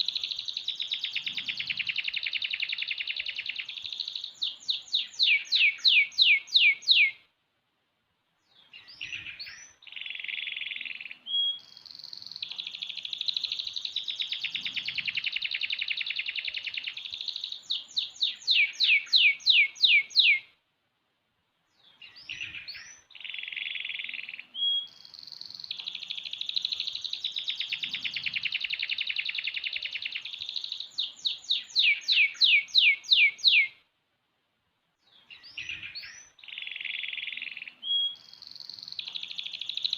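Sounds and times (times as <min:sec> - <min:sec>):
canary singing trills: 0:00.0 - 0:07.3, 0:08.6 - 0:20.5, 0:21.8 - 0:33.8, 0:35.0 - 0:39.9.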